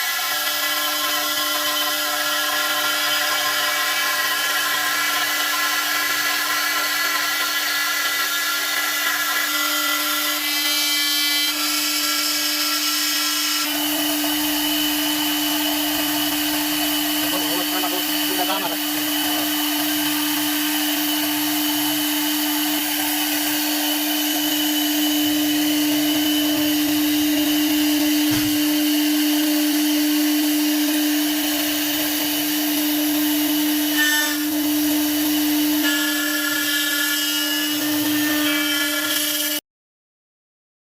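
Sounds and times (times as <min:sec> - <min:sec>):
machine spindle whine: 0:00.0 - 0:39.6.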